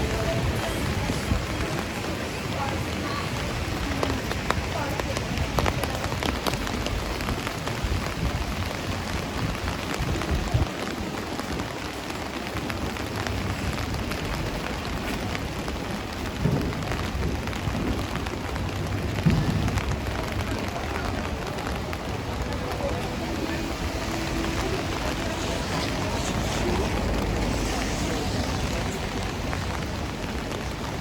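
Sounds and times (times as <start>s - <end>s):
raindrops ticking: 0.0s - 31.0s
steady rain falling: 0.0s - 31.0s.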